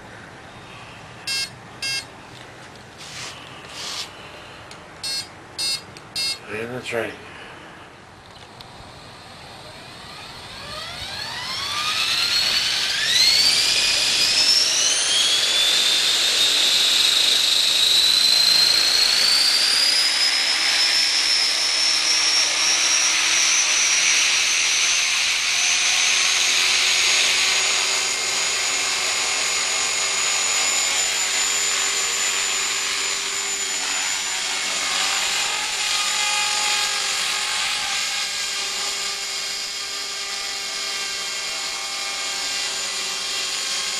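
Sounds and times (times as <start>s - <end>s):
rc helicopter motor whine: 1.3s - 2.1s, 8.5s - 43.9s.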